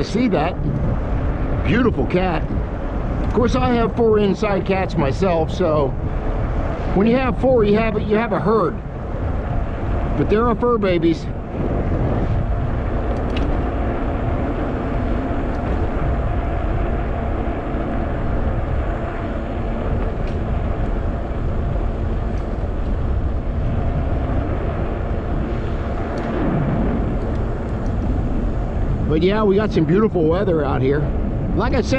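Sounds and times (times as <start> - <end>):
bicycle tyre noise: 0.0 - 31.9
wind rush on microphone: 0.0 - 31.9.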